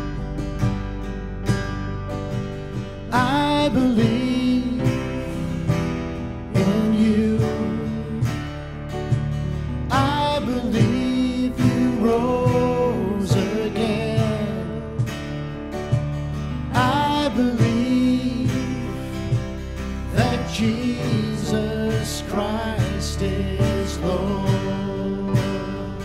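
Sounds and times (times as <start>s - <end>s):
worship band music: 0.0s - 26.0s.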